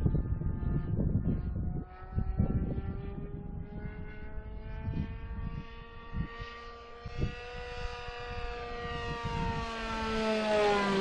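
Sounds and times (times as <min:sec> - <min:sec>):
model plane motor buzzing: 0:00.0 - 0:11.0
wind buffeting microphone: 0:00.0 - 0:11.0.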